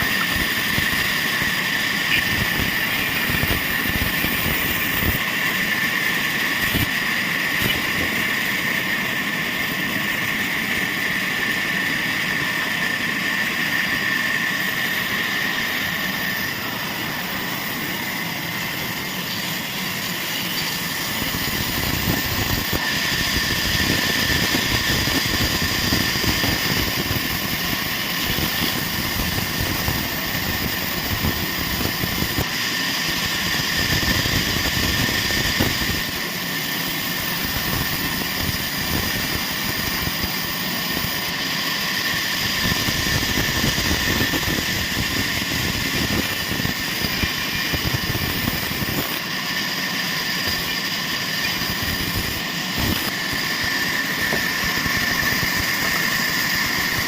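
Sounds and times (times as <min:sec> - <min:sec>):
saw whining: 0:00.0 - 0:57.0
sawmill machinery running: 0:00.0 - 0:57.0.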